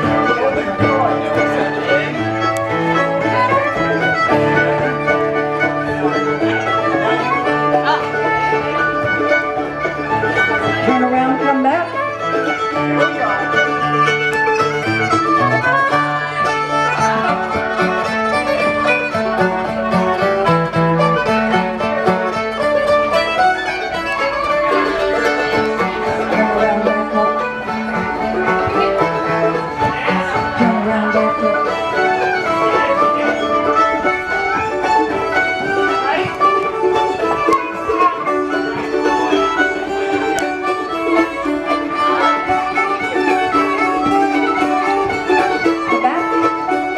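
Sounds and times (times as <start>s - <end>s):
fiddle melody: 0.0s - 46.9s
string band playing a dance tune: 0.0s - 46.9s.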